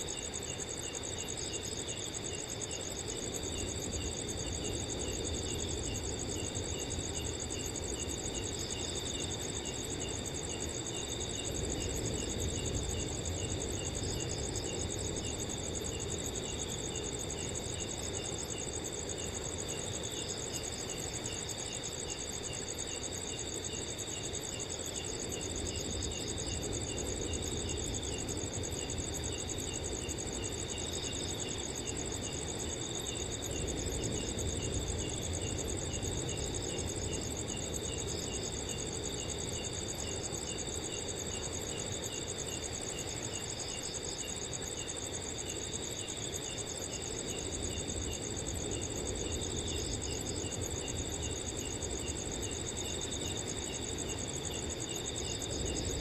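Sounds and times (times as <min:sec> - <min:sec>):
cricket chirping in a pulse: 0:00.0 - 0:56.0
crickets trilling: 0:00.0 - 0:56.0
low rumble of wind: 0:00.0 - 0:56.0.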